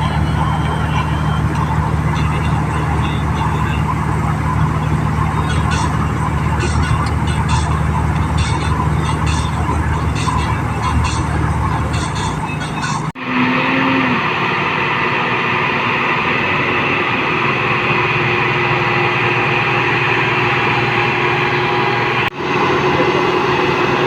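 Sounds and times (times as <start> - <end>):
combine harvester droning: 0.0 - 24.0.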